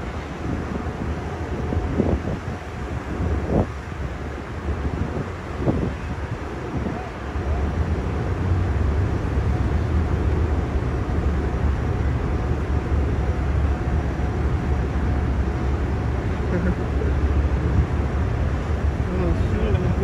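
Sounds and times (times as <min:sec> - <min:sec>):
heavy vehicle engines idling: 0:00.0 - 0:20.0
street traffic rumble: 0:00.0 - 0:20.0.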